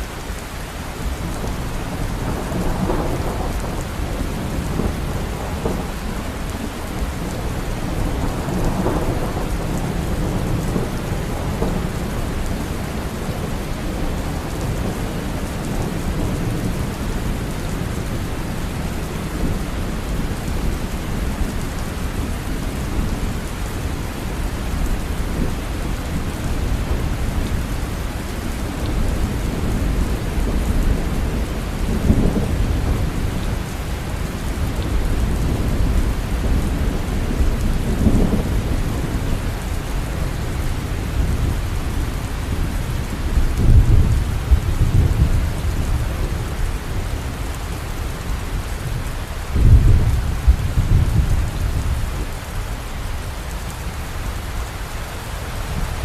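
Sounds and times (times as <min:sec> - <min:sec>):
steady rain: 0:00.0 - 0:56.0
low rolling thunder: 0:01.0 - 0:52.6.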